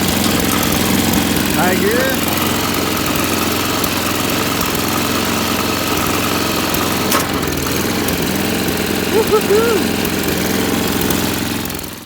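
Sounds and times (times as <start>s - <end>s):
snowblower engine running: 0.0s - 12.0s.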